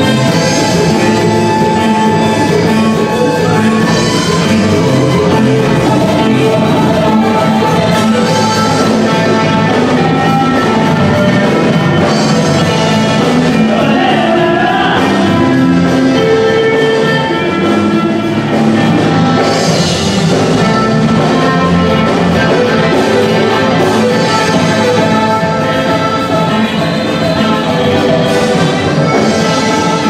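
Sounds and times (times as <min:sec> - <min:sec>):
live band dance music: 0:00.0 - 0:30.0.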